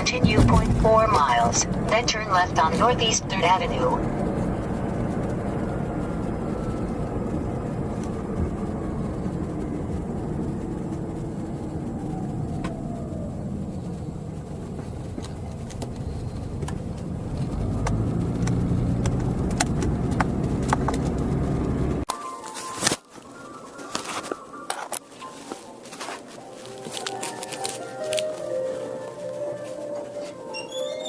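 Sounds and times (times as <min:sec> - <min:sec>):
car engine and road noise: 0:00.0 - 0:30.5.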